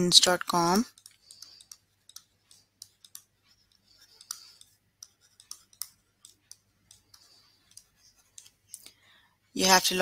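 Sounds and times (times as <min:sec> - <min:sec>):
stylus scratching while writing: 0:00.0 - 0:09.0.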